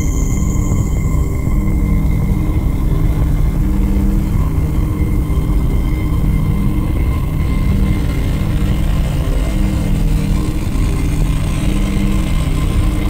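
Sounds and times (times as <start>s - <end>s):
ambient electronic drone music: 0.0s - 13.0s.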